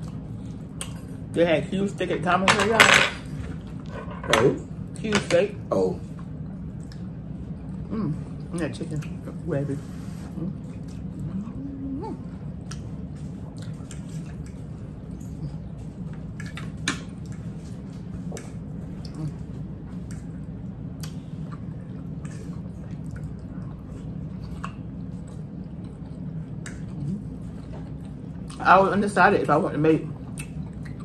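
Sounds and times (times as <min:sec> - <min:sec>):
people chewing food: 0:00.0 - 0:02.1, 0:03.3 - 0:31.0
low hum: 0:00.0 - 0:31.0.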